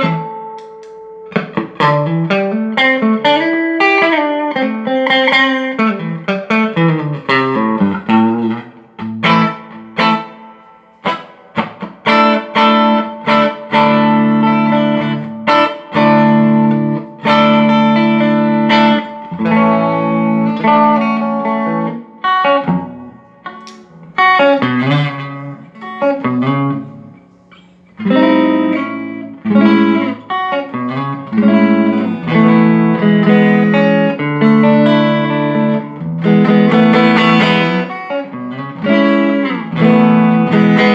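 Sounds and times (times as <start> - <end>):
electric guitar notes and chords: 0.0 - 40.9.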